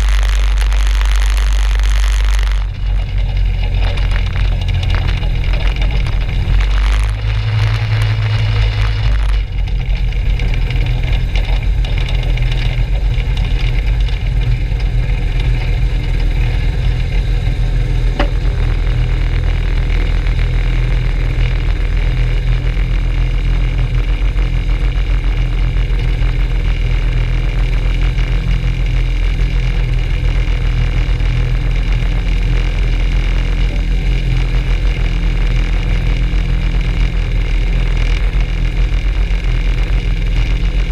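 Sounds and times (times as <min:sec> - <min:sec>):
two-stroke engine running steadily: 0:00.0 - 0:40.9.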